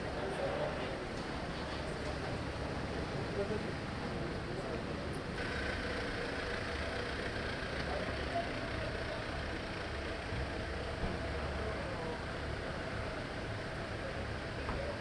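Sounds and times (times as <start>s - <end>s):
suv engines humming: 0.0s - 15.0s.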